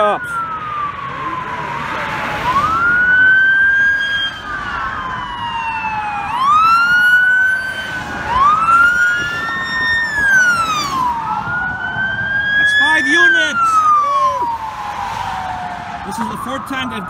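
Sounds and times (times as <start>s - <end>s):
passing traffic: 0.0s - 17.0s
police sirens wailing: 0.0s - 17.0s.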